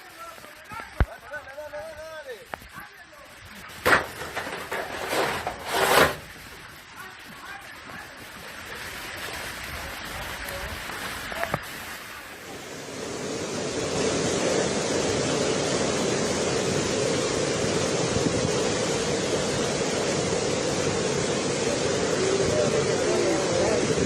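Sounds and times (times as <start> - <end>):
flooding river rushing: 0.0 - 24.0.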